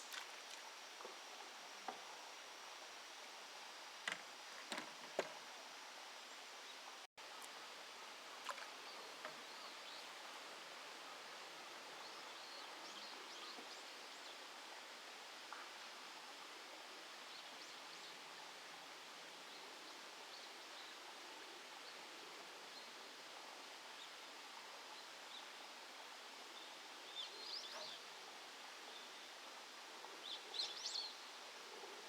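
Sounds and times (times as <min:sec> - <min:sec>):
steady soft hiss: 0:00.0 - 0:32.0.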